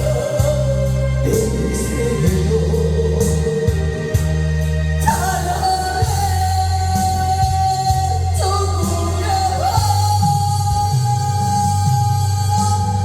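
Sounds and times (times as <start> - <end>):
person singing long notes: 0.0 - 4.3, 5.0 - 13.0
backing track with bass and beat: 0.0 - 13.0.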